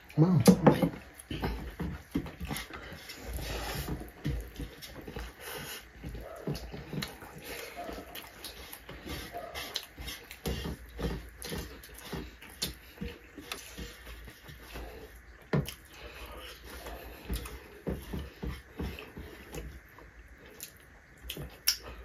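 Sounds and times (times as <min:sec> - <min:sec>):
fingers working food on metal plates: 0:00.0 - 0:20.6
chewing and lip smacking: 0:01.0 - 0:17.8, 0:18.6 - 0:22.0.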